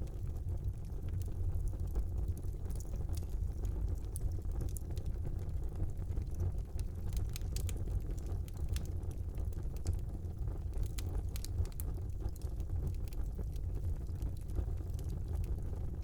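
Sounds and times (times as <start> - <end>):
fire crackling and popping: 0.0 - 16.0
fire rumbling in fireplace: 0.0 - 16.0.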